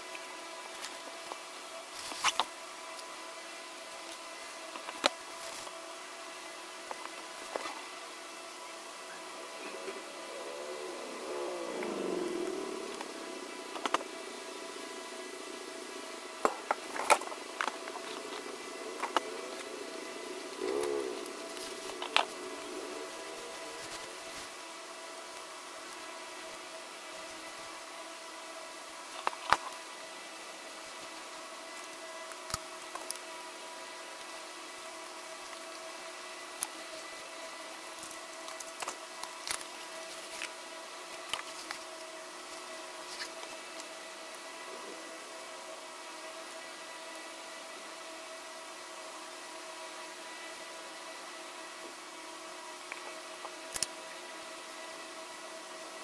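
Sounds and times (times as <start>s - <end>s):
steady background hum: 0.0s - 56.0s
steady hiss: 0.0s - 56.0s.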